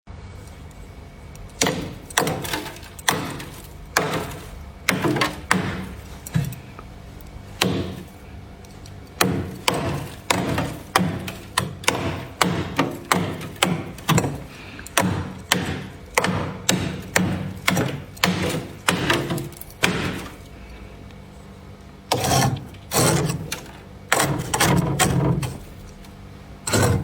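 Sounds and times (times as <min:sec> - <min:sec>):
tool scraping freezer frost: 0:01.6 - 0:06.8, 0:07.6 - 0:20.7, 0:22.0 - 0:27.0.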